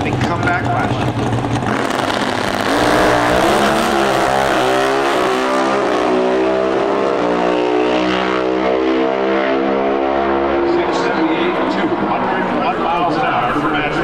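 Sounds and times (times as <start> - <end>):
racing motorcycles at full throttle: 0.0 - 14.0.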